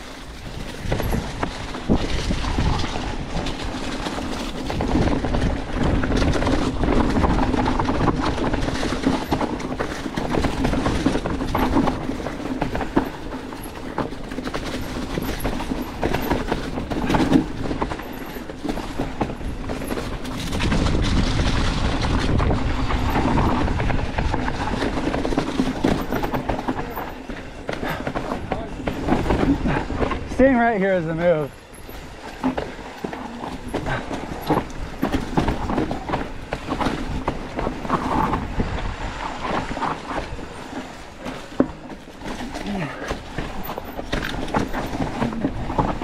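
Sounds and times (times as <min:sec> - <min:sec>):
mountain bike rattling on dirt trail: 0:00.0 - 0:46.0.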